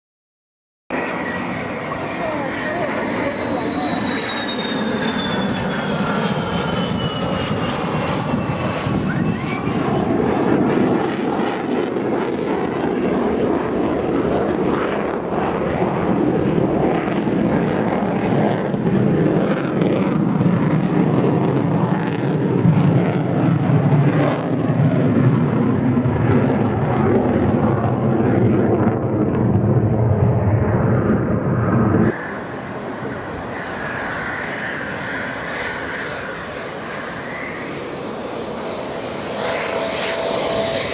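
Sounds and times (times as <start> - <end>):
aircraft engines flying past: 0.9 - 40.9.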